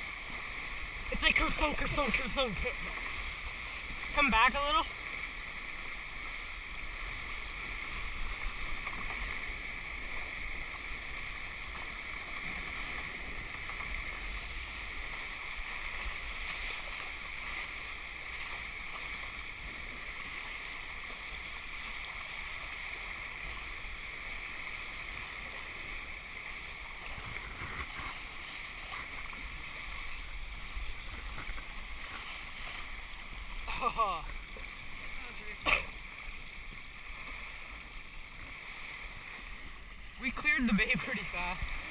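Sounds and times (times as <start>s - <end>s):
water rushing along a hull: 0.0s - 41.9s.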